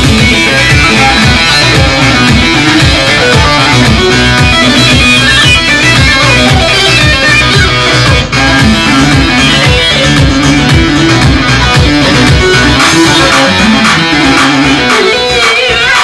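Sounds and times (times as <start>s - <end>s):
plucked string instrument: 0.0s - 15.4s
steady music beat: 0.0s - 16.0s.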